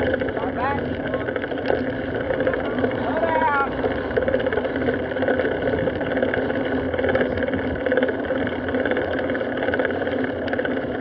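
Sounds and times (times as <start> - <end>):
wind rush on microphone: 0.0 - 9.2
bicycle tyre noise: 0.0 - 11.0
bike rattling clicks: 0.0 - 11.0.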